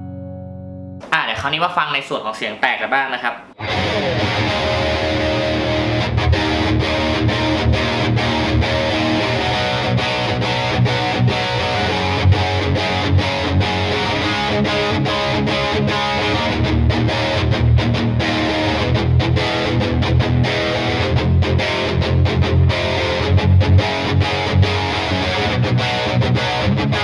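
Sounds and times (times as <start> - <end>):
distorted electric guitar riff: 3.4 - 27.0.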